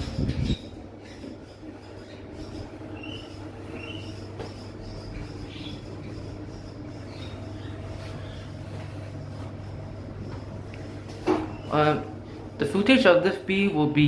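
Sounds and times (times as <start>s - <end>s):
lift running hum: 0.0s - 14.0s.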